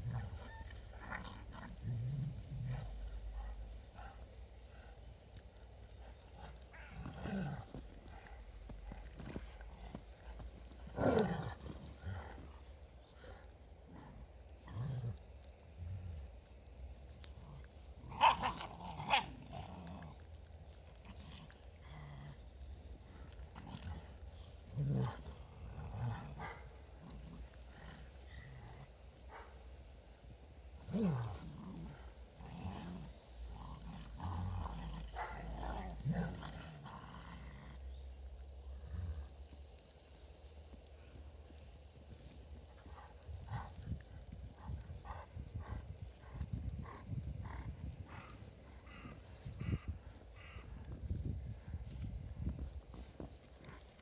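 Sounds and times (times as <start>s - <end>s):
paws crunching in snow: 0.0s - 37.0s, 38.6s - 54.0s
dogs growling: 0.0s - 39.7s, 40.4s - 54.0s.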